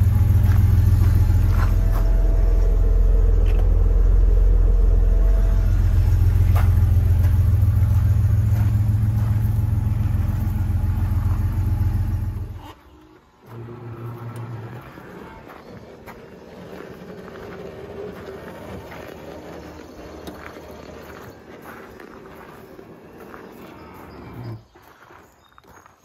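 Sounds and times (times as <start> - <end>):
car engine idling: 0.0 - 24.6
electric soft-top motor hum: 0.0 - 24.6.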